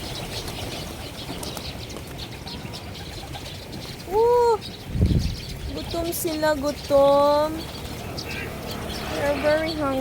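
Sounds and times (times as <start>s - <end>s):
birds chirping: 0.0s - 10.0s
loud bird call: 0.0s - 10.0s
outdoor background noise: 0.0s - 10.0s.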